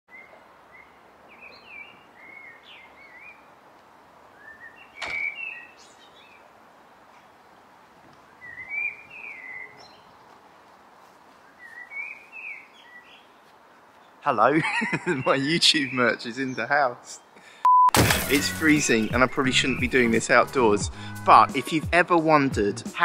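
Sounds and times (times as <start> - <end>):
garden birds singing: 0.1 - 3.6, 4.2 - 10.7, 11.4 - 17.6, 18.3 - 21.7
outdoor background noise: 0.1 - 20.5.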